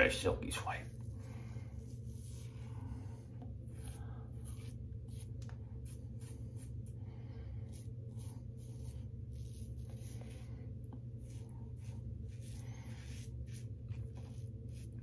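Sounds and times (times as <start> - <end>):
steady low hum: 0.0 - 15.0
razor scraping stubble: 0.5 - 2.6, 3.4 - 6.9, 7.7 - 15.0.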